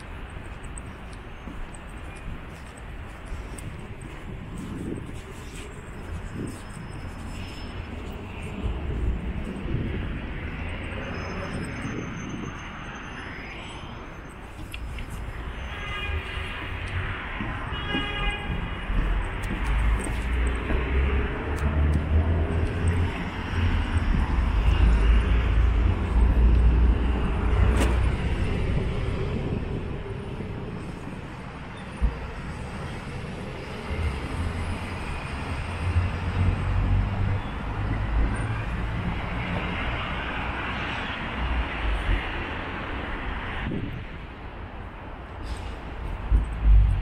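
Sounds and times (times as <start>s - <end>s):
city road traffic: 0.0s - 47.0s
low traffic rumble: 0.0s - 47.0s.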